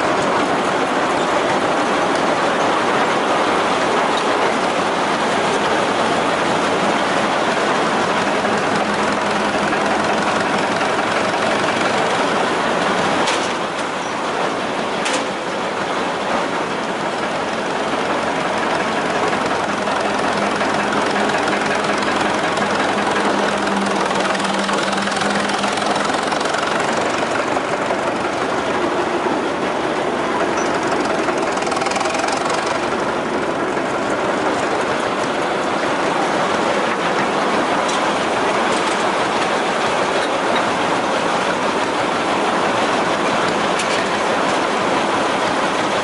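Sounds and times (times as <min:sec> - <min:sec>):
engine and machinery clattering: 0:00.0 - 0:46.0.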